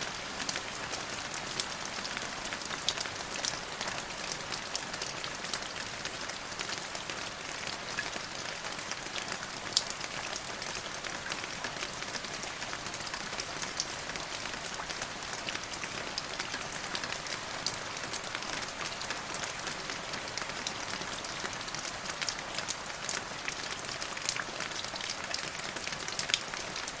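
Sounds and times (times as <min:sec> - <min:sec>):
rain hiss: 0:00.0 - 0:27.0
raindrops pattering: 0:00.0 - 0:27.0.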